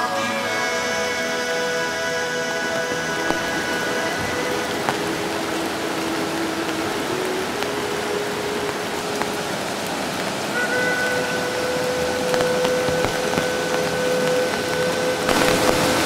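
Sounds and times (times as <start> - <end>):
water rushing through weir: 0.0 - 16.0.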